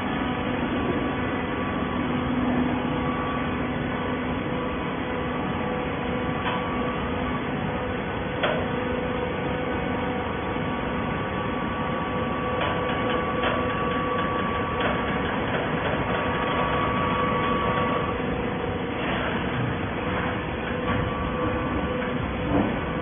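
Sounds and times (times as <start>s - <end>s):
hydraulic baler humming: 0.0s - 23.0s.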